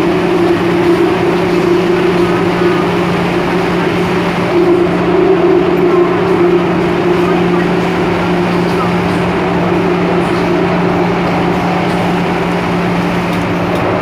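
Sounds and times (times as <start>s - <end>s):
steady low hum: 0.0s - 14.0s
train rumbling: 0.0s - 14.0s.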